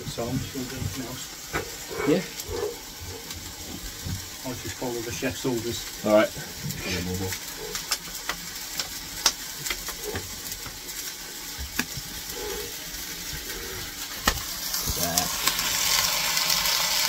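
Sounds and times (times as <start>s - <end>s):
oil sizzling on metal: 0.0s - 17.0s.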